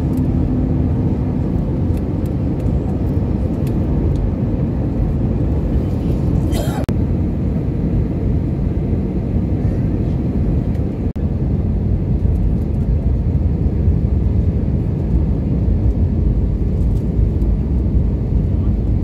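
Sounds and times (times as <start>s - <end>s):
jet cabin engine noise: 0.0s - 19.0s.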